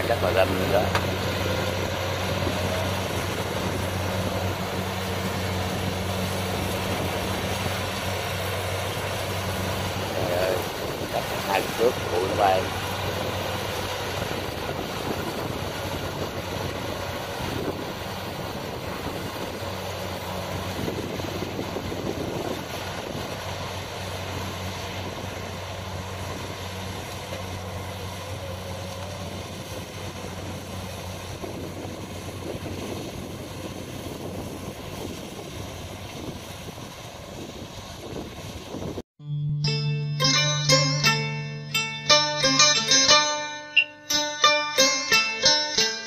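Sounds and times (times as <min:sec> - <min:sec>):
combine harvester engine running: 0:00.0 - 0:39.0.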